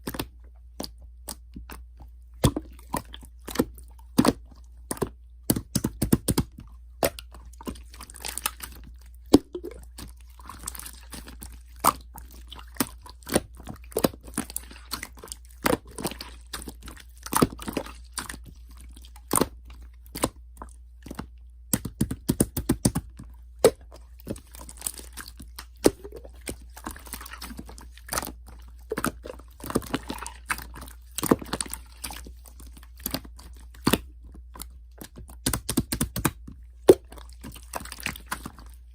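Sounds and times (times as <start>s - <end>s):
person chewing crunchy food: 6.3s - 21.2s, 21.8s - 38.9s.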